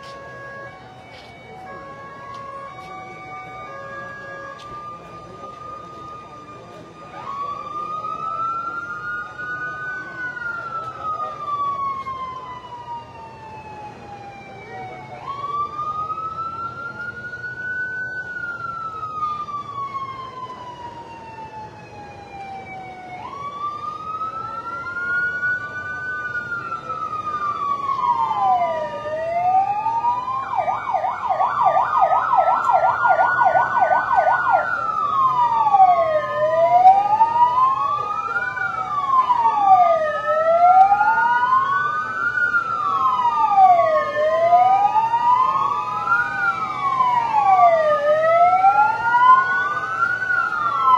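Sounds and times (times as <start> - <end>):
emergency vehicle sirens: 0.0 - 50.9.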